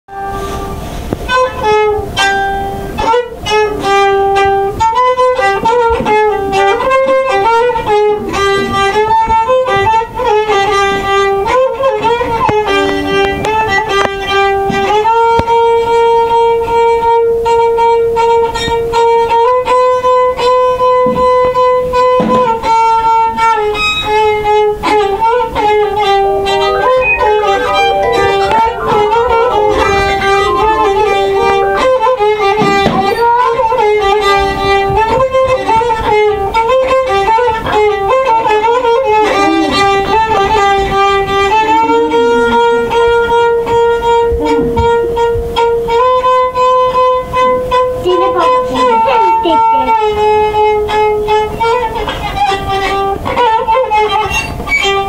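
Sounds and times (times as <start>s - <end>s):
bowed violin melody: 0.1s - 55.0s.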